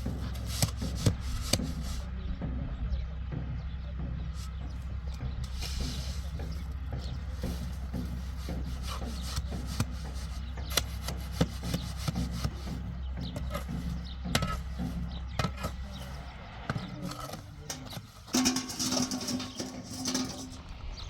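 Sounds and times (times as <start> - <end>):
tools scraping wet concrete: 0.0 - 2.1, 4.4 - 20.7
low motor hum: 0.0 - 21.0.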